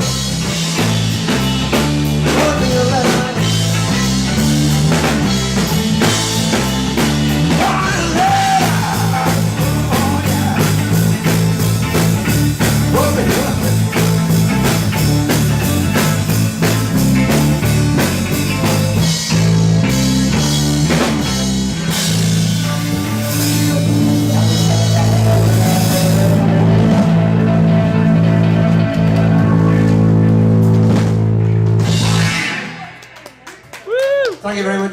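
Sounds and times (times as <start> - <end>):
drum kit steady beat: 0.0 - 27.3, 29.6 - 33.9
live rock band playing: 0.0 - 34.2.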